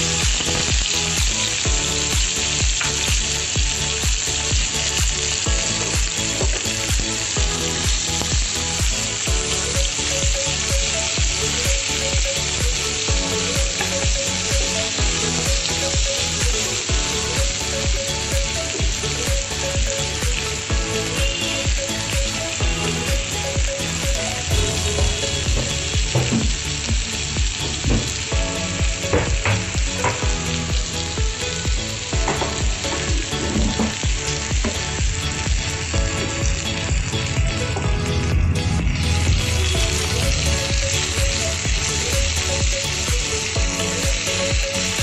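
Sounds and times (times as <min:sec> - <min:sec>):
background music with a beat: 0:00.0 - 0:45.0
onions sizzling in a pan: 0:00.0 - 0:45.0.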